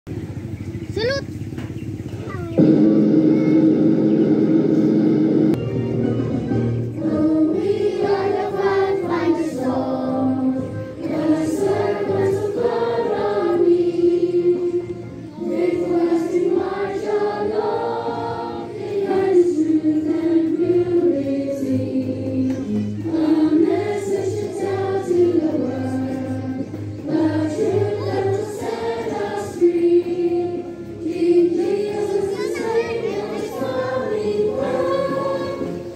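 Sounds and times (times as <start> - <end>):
group of people singing: 6.9 - 35.9.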